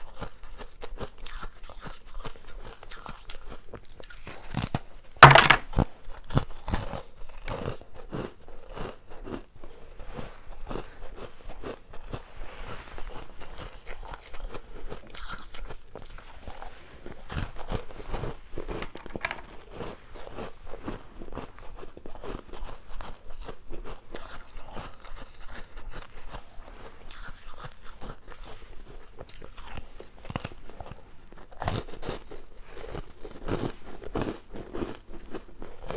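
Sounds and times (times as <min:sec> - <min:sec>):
ice crunching and chewing: 0:00.0 - 0:35.9.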